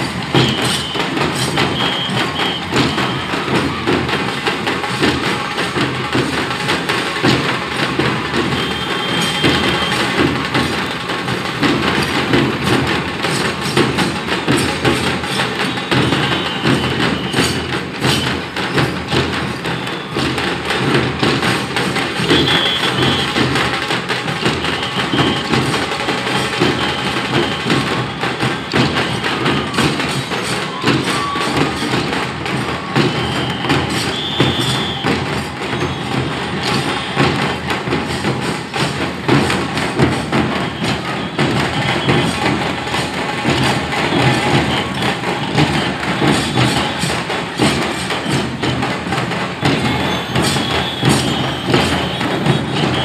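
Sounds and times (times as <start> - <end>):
procession drums and percussion: 0.0 - 53.0.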